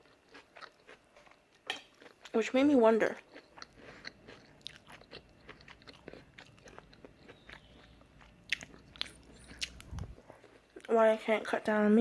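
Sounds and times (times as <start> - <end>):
person chewing noodles: 0.0 - 2.4, 3.0 - 10.9.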